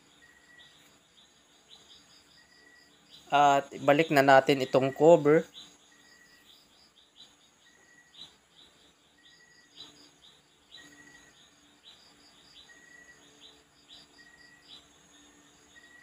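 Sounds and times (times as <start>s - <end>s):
faint pulsing insect trill: 0.0s - 16.0s.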